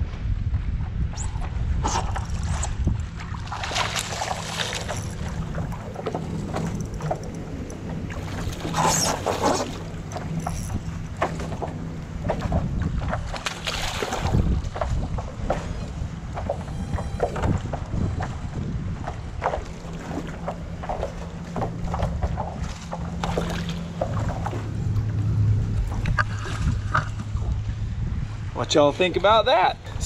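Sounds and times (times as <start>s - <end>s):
wind rumbling on microphone: 0.0s - 30.0s
water splashing: 1.2s - 28.0s.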